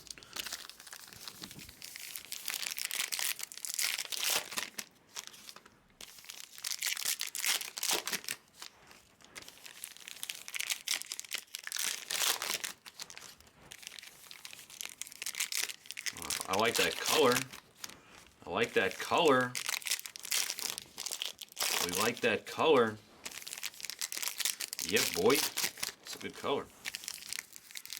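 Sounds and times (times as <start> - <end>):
foil wrappers crinkling and tearing: 0.0 - 27.9.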